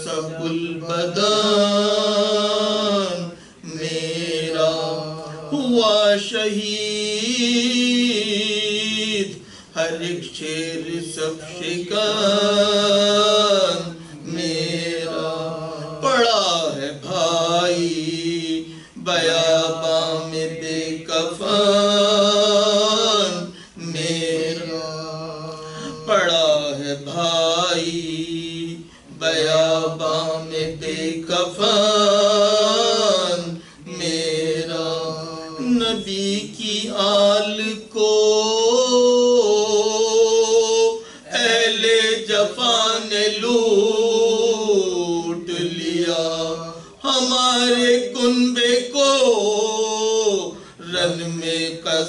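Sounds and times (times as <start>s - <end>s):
man chanting: 0.0s - 52.0s.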